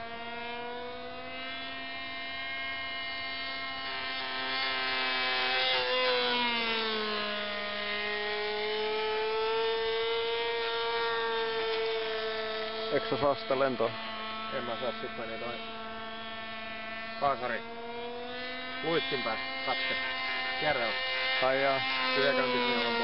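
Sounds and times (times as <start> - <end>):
model airplane engine buzzing: 0.0 - 23.0.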